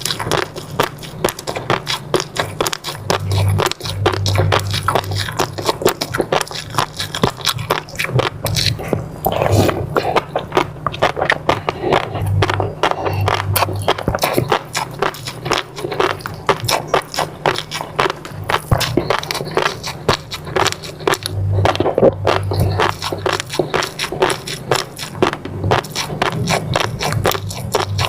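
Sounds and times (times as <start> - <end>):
mouth chewing and biting: 0.0 - 28.0.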